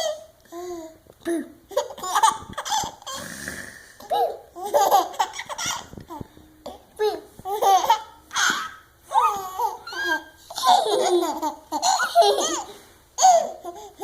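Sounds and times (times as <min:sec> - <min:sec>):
baby laughing: 0:01.7 - 0:03.2, 0:04.0 - 0:14.0.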